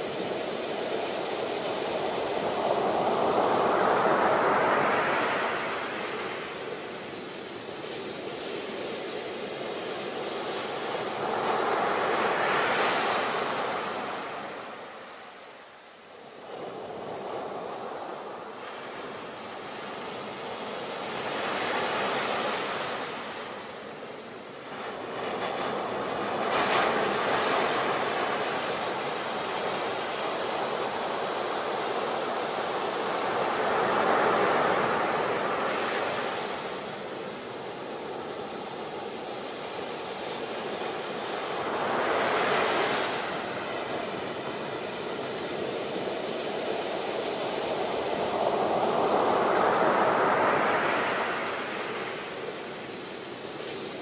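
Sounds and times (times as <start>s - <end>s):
ocean surf crashing: 0.0s - 15.3s, 16.2s - 54.0s.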